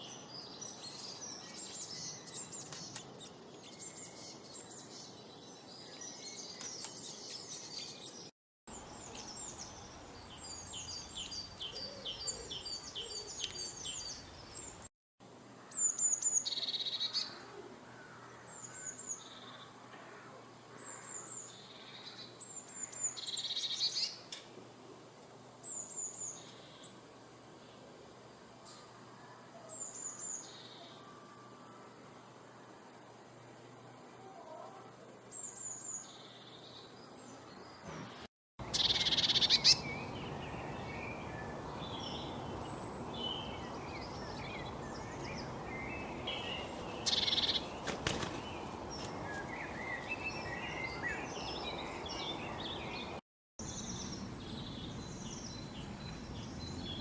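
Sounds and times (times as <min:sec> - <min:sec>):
songbirds chirping: 0:00.0 - 0:14.9, 0:25.3 - 0:57.0.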